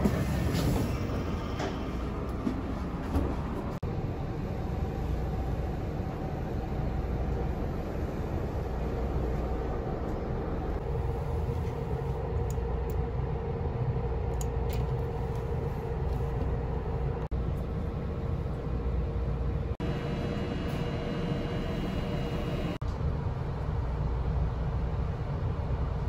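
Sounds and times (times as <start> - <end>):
train cabin low hum: 0.0 - 26.0.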